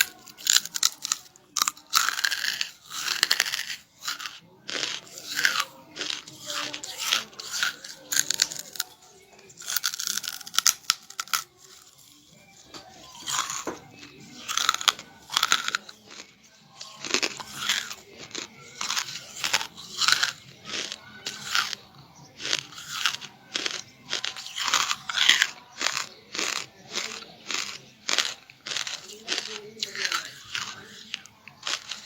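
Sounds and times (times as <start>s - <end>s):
chewing brittle charcoal: 0.0s - 32.0s.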